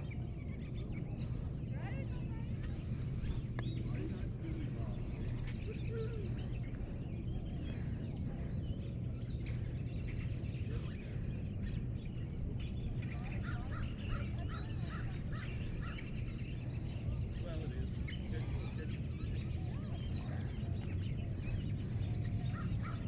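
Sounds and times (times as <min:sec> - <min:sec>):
birds chirping: 0:00.0 - 0:23.0
low outdoor rumble: 0:00.0 - 0:23.0.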